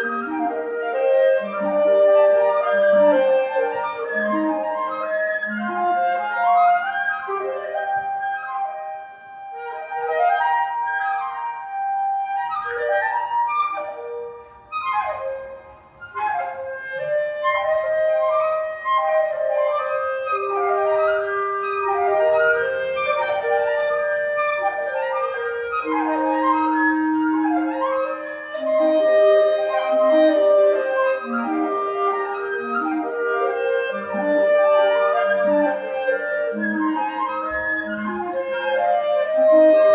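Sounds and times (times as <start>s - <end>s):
flute and clarinets playing runs: 0.0s - 39.9s.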